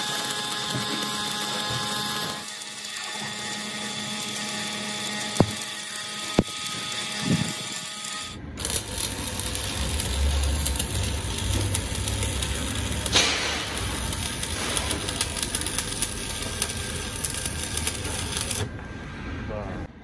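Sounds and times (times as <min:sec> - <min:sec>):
power tool crackling on steel: 0:00.0 - 0:18.7.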